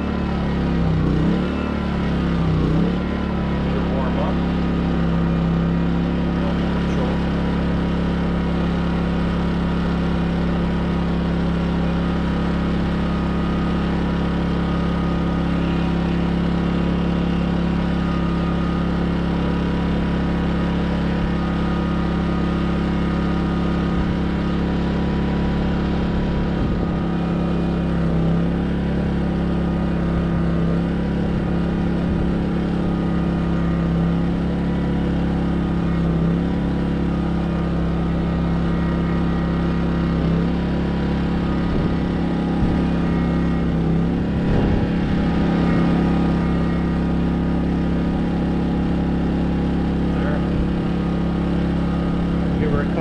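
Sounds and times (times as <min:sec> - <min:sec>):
generator engine running: 0:00.0 - 0:53.0.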